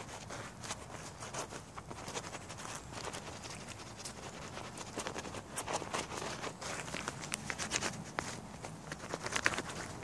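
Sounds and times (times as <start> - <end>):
hand rubbing animal hide: 0.0 - 10.0.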